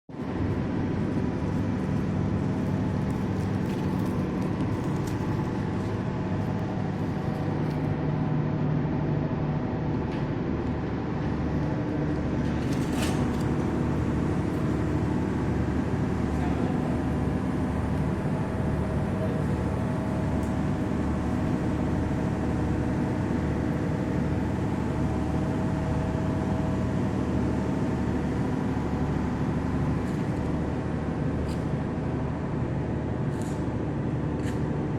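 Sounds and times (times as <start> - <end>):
ship's diesel engine running: 0.1 - 34.9.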